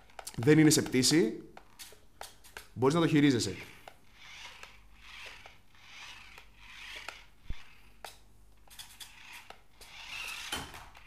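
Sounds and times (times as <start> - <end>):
small electric motors whirring: 0.0 - 11.0.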